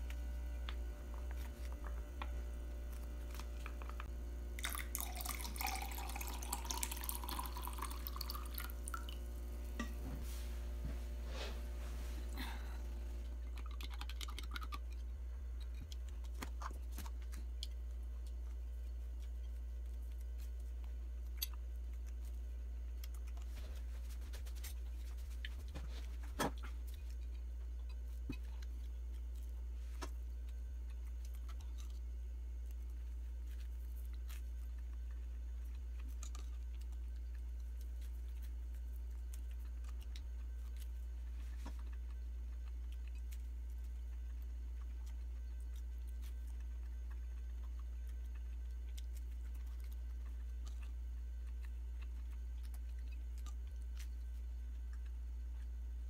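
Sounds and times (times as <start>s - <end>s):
soft eating sounds: 0.0s - 56.0s
steady low hum: 0.0s - 56.0s.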